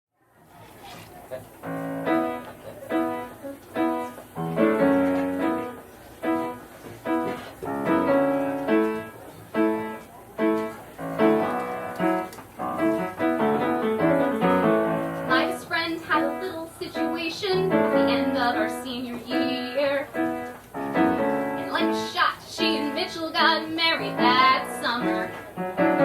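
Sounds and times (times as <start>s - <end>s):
piano playing lively chords: 1.6s - 26.0s.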